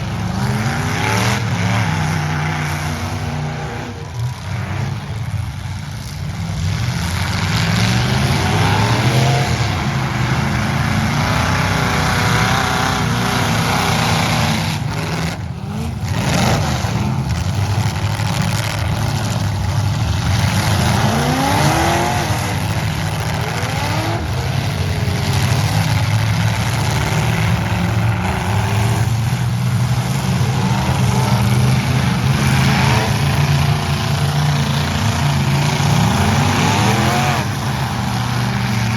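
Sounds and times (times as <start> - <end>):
truck engines revving hard: 0.0 - 38.9.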